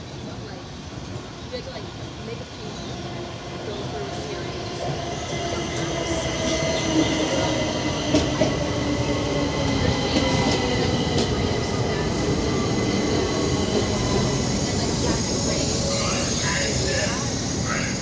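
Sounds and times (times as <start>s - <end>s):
high whine of train: 0.0s - 18.0s
train wheels rumbling on rails: 0.0s - 18.0s.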